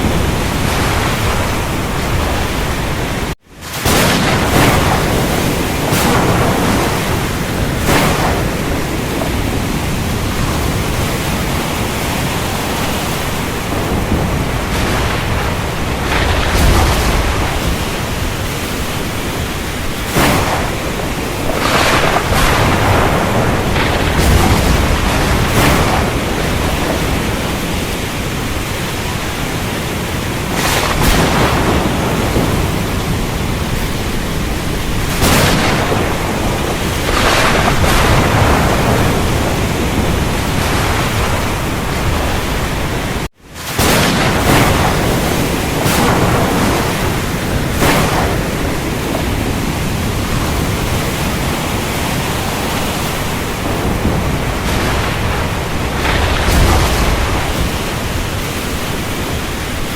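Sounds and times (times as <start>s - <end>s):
heavy rain hiss: 0.0s - 59.9s
thunder: 0.0s - 59.9s.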